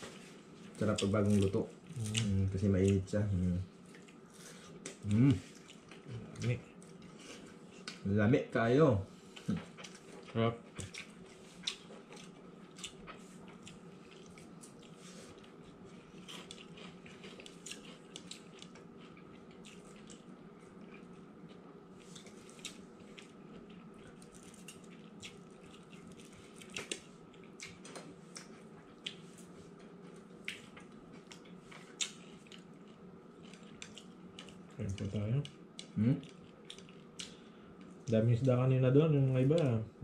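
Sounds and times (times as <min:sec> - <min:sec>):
chewing fried fish: 0:00.0 - 0:08.1, 0:09.2 - 0:38.5
steady low hum: 0:00.0 - 0:40.0.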